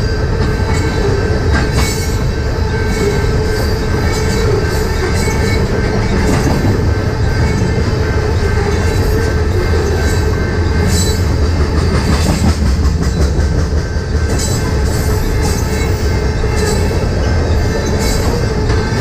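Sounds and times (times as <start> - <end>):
train wheels rumbling on rail: 0.0 - 19.0
wheels clanking over rail joints: 0.0 - 19.0.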